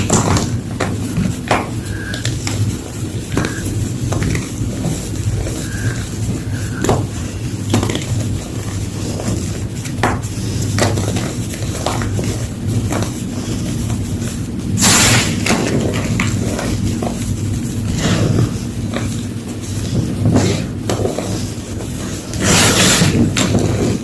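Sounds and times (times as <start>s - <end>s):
chalk cracking and crumbling: 0.0s - 24.0s
steady low hum: 0.0s - 24.0s.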